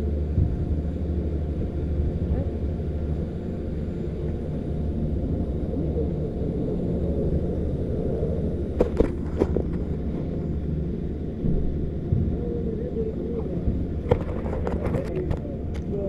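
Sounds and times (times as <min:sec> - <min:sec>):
chairlift machinery rumbling: 0:00.0 - 0:16.0.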